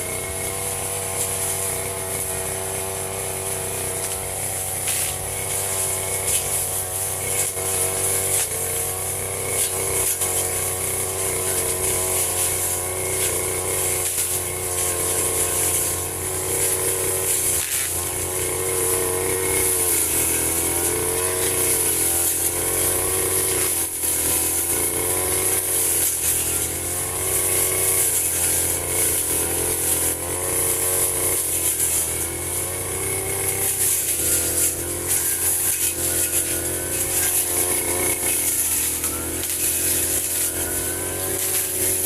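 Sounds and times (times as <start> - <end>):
brush cutter cutting grass: 0.0 - 42.0.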